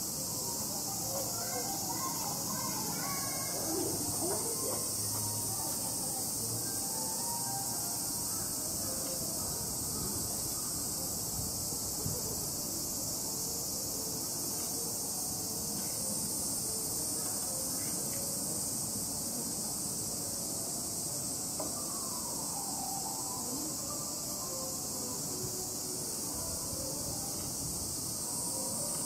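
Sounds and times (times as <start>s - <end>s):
insects chorus: 0.0s - 29.0s
low background noise: 0.0s - 29.0s.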